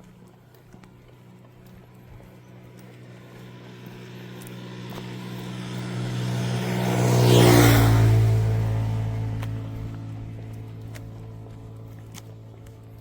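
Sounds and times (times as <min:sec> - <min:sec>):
vehicle engine passing by: 0:02.5 - 0:13.0.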